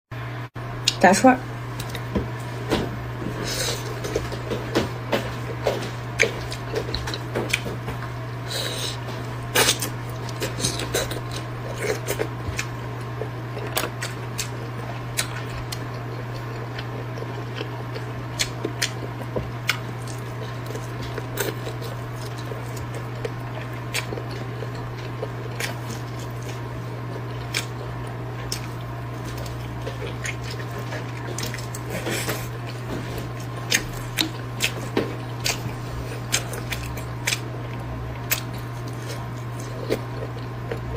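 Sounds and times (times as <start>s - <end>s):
steady low hum: 0.1s - 40.9s
wet chewing: 5.2s - 40.9s.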